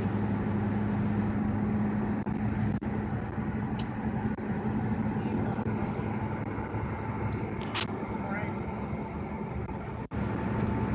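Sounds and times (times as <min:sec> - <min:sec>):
car engine: 0:00.0 - 0:10.9
road noise: 0:00.0 - 0:10.9.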